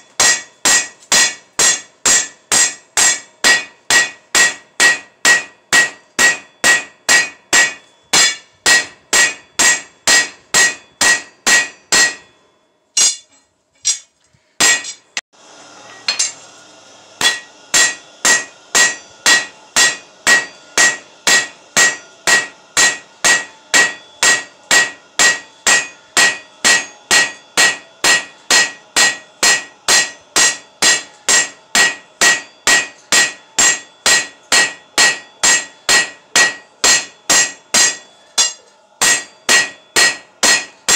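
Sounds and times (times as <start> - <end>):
hammer ringing on anvil: 0.0 - 13.3, 13.9 - 15.2, 15.8 - 16.5, 17.2 - 40.9.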